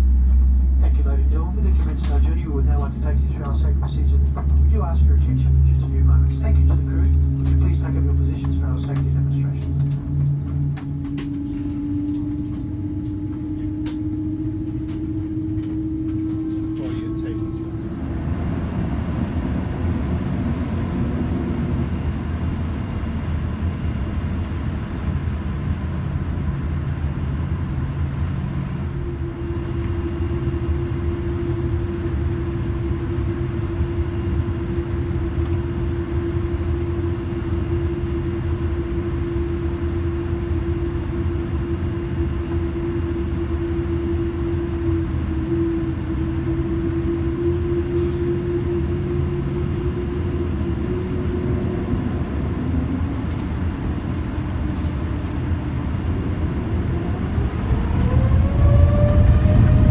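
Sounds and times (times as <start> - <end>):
airliner cabin rumble: 0.0 - 59.9
steady hum: 0.0 - 59.9.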